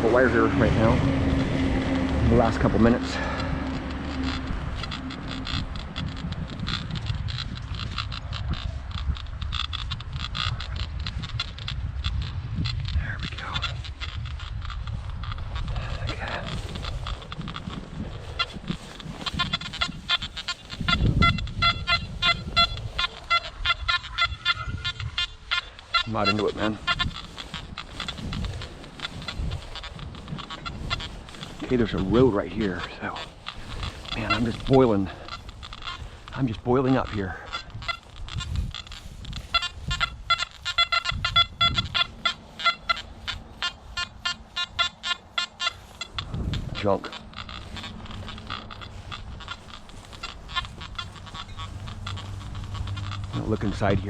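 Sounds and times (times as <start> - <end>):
low rumble: 0.0 - 36.4, 45.2 - 54.0
geese honking: 0.0 - 54.0.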